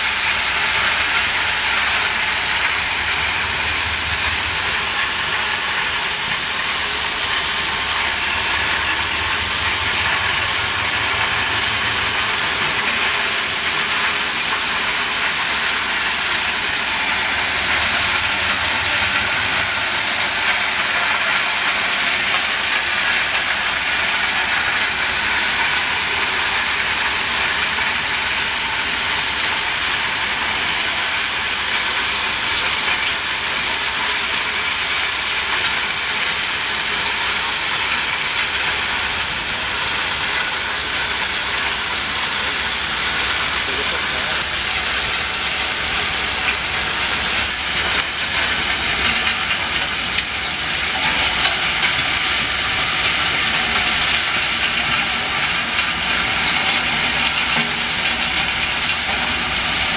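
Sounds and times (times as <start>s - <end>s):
train clatter and rumble: 0.0s - 59.9s.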